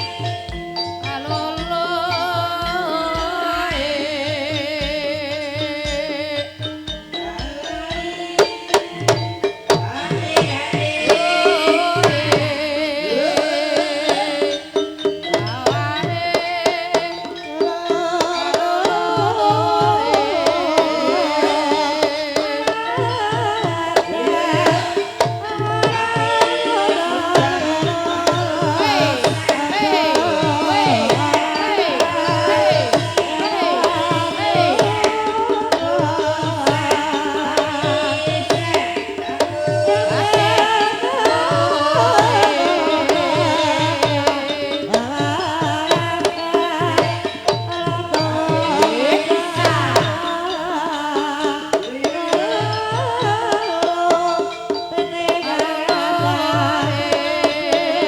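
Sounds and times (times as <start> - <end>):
hand drums beating: 0.0 - 58.0
metallophone melody: 0.0 - 58.0
person singing: 0.0 - 58.0.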